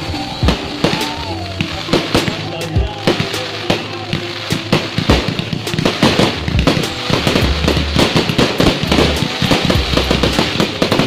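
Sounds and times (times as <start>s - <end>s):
fireworks bangs and crackles: 0.0s - 11.0s
music with deep bass line: 0.0s - 11.0s.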